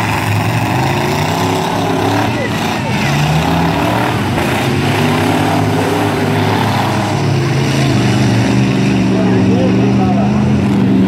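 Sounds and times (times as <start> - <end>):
van engines revving: 0.0 - 11.0.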